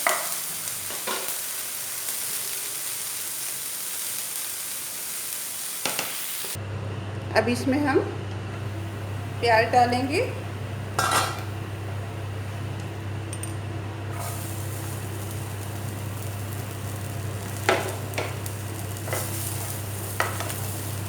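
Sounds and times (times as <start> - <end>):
vegetables sizzling in a pan: 0.0 - 6.6, 8.6 - 21.0.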